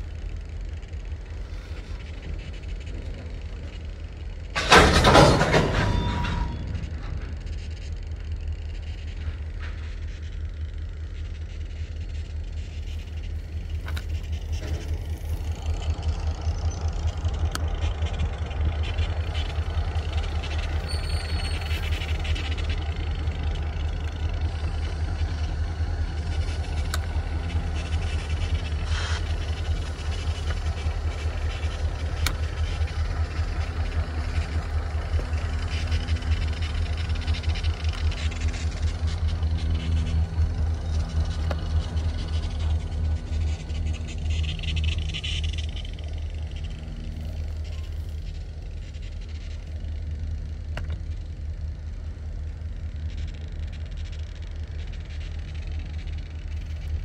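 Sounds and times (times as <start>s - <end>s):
faint low hum: 0.0s - 57.0s
faint rail clicks: 0.0s - 57.0s
freight train rumbling past: 0.0s - 57.0s.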